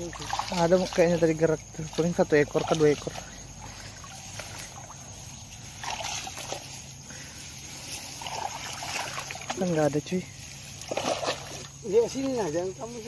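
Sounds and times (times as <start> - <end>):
shallow water sloshing: 0.0 - 12.7
grass rustling: 0.0 - 13.0.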